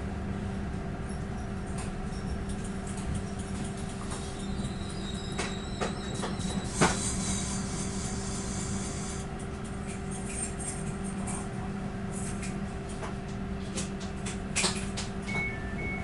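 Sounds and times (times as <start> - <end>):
train running equipment hum: 0.0 - 16.0.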